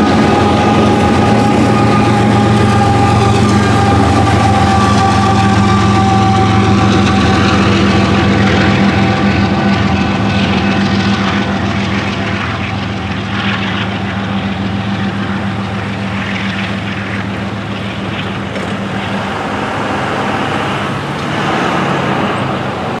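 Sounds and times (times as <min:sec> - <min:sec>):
truck diesel engines idling: 0:00.0 - 0:23.0
vehicles driving over railroad tracks: 0:00.0 - 0:23.0.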